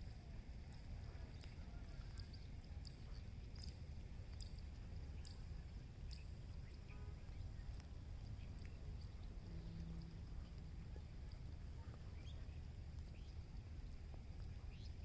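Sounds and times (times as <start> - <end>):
steady low rumble: 0.0 - 15.0
small birds chirping: 1.1 - 15.0.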